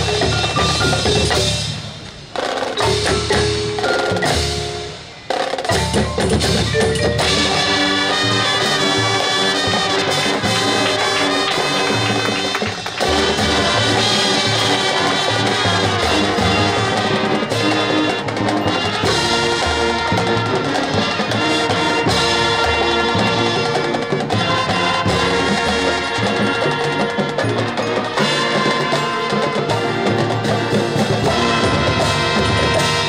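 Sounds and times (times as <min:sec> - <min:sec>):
drums: 0:00.0 - 0:33.0
mallet percussion: 0:00.0 - 0:33.0
marching band playing: 0:00.0 - 0:33.0.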